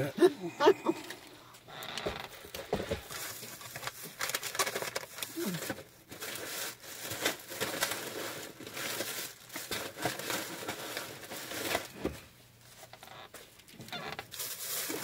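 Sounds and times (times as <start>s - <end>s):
paper crinkling and rustling: 1.9s - 15.0s.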